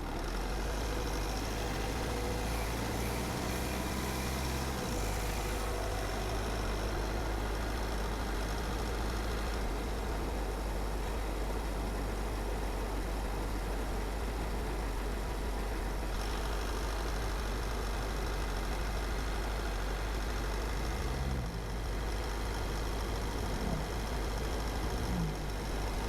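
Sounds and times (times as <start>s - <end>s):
car tyre and engine rumble: 0.0s - 26.0s.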